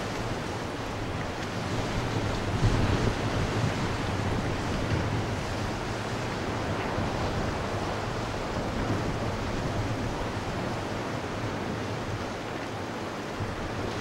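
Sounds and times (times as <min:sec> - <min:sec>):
waves breaking: 0:00.0 - 0:14.0
wind buffeting microphone: 0:00.0 - 0:14.0.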